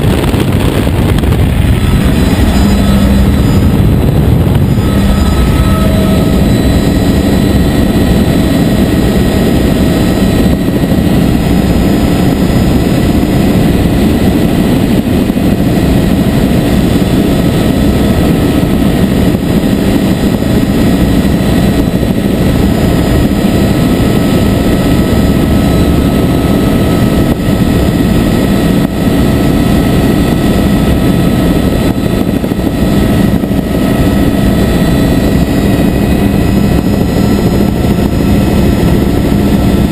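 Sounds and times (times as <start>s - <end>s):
helicopter drone: 0.0s - 39.9s
high whine: 0.0s - 39.9s.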